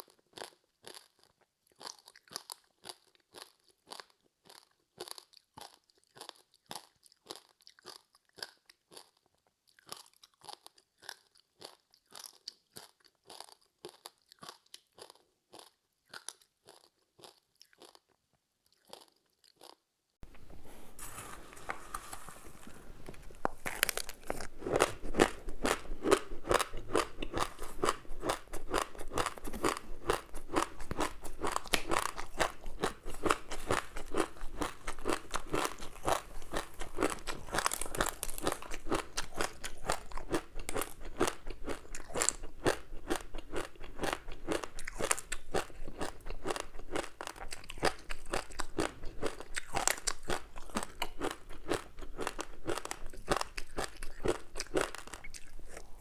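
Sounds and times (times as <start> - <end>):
chewing crispy snack: 0.0 - 19.9, 21.0 - 56.0.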